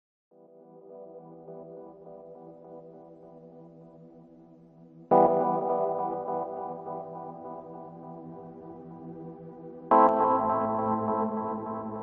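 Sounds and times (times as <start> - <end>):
ambient music with held tones: 0.4 - 12.0.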